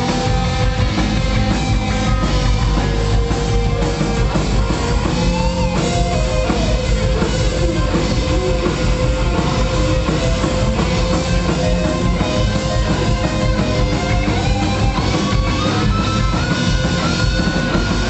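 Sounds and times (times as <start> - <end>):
drum kit beat: 0.0 - 18.0
rock band playing live: 0.0 - 18.0.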